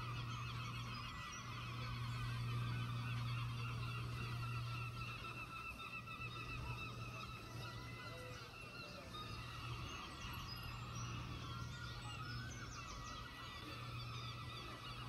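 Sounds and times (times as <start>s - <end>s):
seabirds honking calls: 0.0s - 15.0s.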